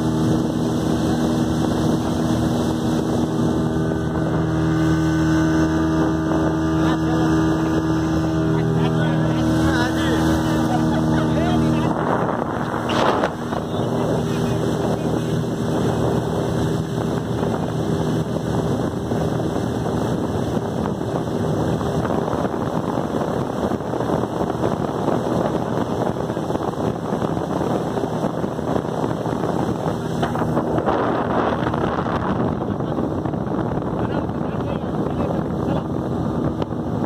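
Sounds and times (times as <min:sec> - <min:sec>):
boat engine drone: 0:00.0 - 0:37.0
water rushing along hull: 0:00.0 - 0:37.0
wind buffeting microphone: 0:00.0 - 0:37.0.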